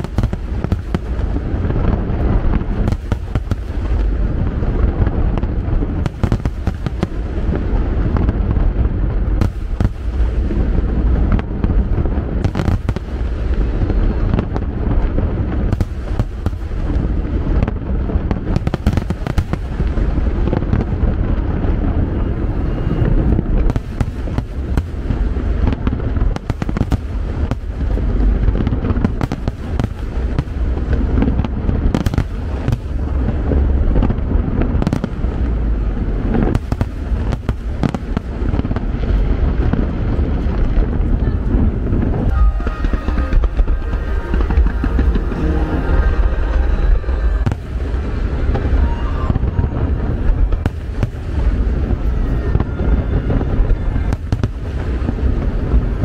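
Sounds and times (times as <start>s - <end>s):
fireworks bursting: 0.0s - 56.0s
low rumble: 0.0s - 56.0s.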